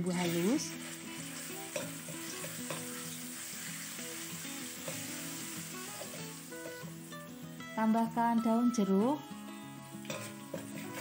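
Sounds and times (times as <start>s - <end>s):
spice paste sizzling in oil: 0.0s - 7.7s, 9.2s - 11.0s.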